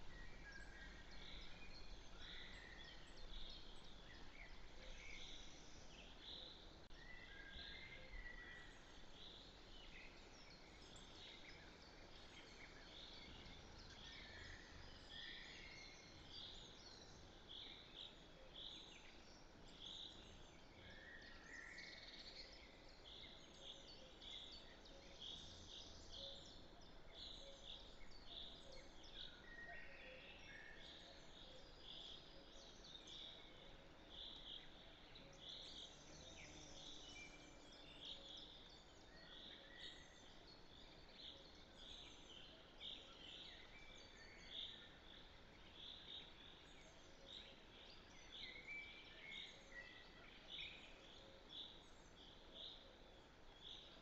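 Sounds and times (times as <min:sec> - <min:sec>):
faint birdsong: 0:00.0 - 0:54.0.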